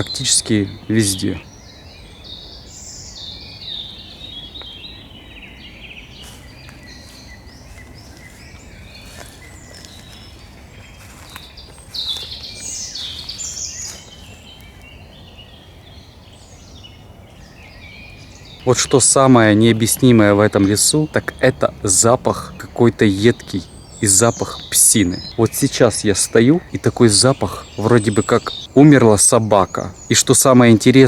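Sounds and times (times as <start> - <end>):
low background hiss: 0.0 - 31.0
small birds singing: 0.0 - 31.0.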